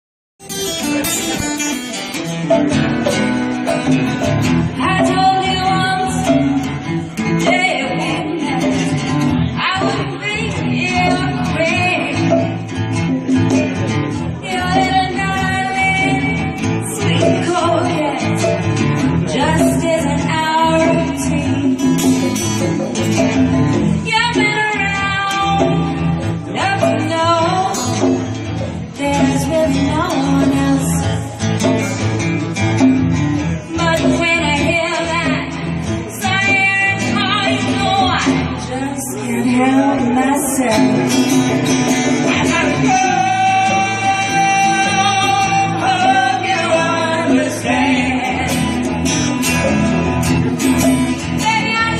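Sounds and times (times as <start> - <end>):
live band music: 0.4 - 51.9.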